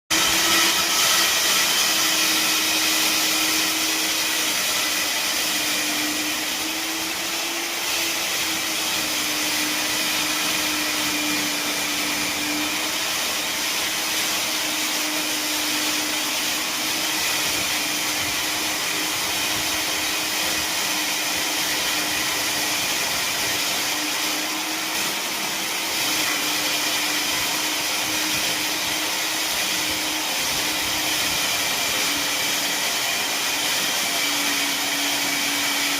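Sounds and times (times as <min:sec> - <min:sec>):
electric core drill whining: 0:00.1 - 0:35.9.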